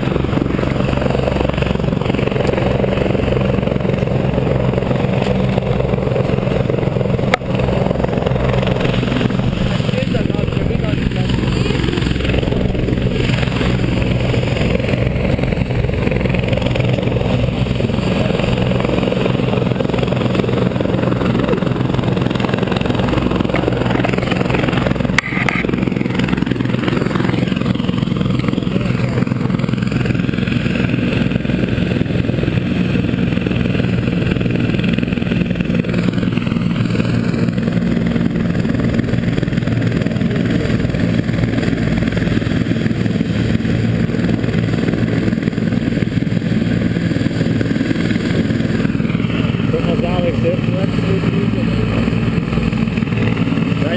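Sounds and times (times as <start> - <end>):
helicopter engine and rotor drone: 0.0 - 53.9.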